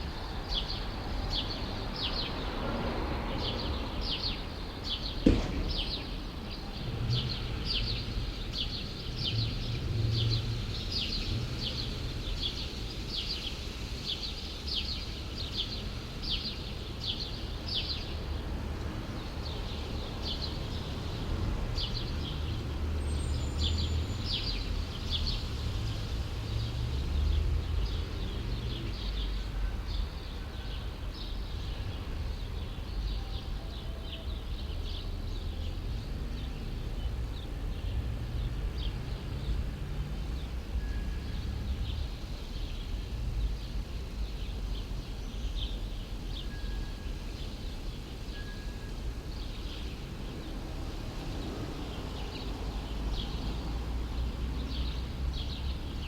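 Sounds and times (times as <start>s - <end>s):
distant city traffic rumble: 0.0s - 56.0s.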